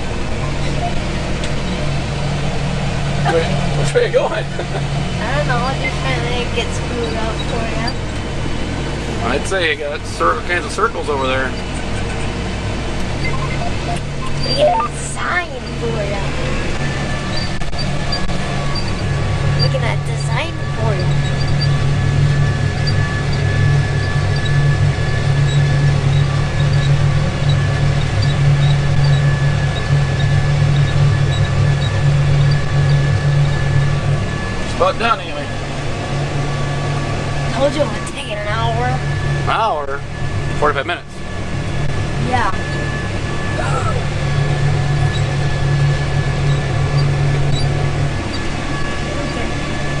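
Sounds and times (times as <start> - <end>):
thin high whine: 0.0 - 50.0
tractor engine under load: 0.0 - 50.0.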